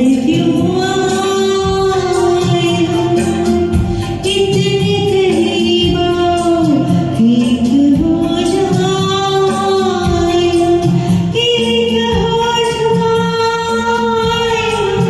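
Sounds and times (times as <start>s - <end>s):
karaoke backing track: 0.0s - 15.0s.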